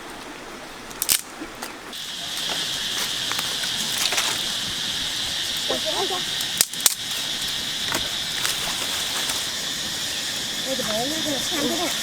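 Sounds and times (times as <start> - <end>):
high-pitched insect drone: 2.0 - 12.0.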